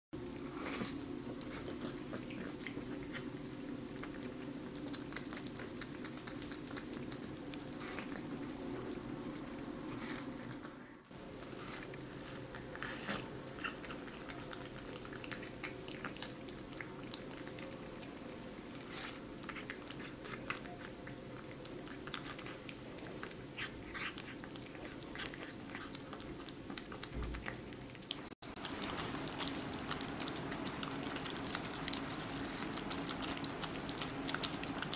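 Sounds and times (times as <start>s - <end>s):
kitten licking and chewing: 0.2s - 34.9s
steady low hum: 0.2s - 34.9s.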